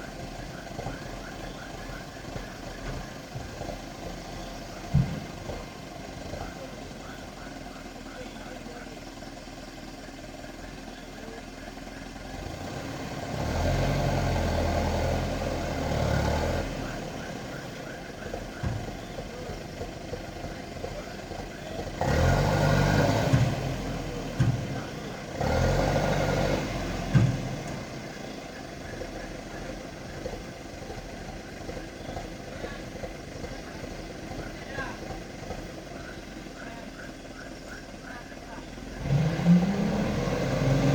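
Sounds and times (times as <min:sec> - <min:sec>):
heavy equipment engine revving: 0:00.0 - 0:40.9.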